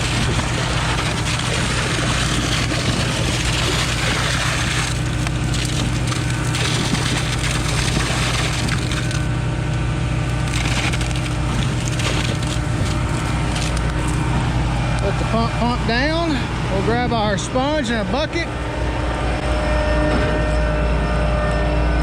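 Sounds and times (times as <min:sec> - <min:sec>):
concrete pumping noise: 0:00.0 - 0:20.6
truck engine hum: 0:00.0 - 0:22.0.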